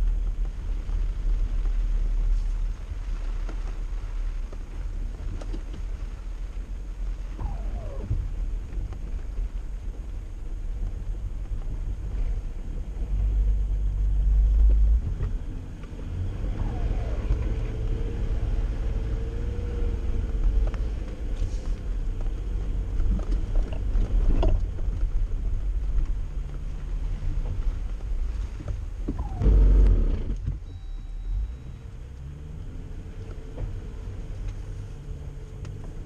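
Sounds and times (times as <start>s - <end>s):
off-road vehicle engine running: 0.0s - 36.0s.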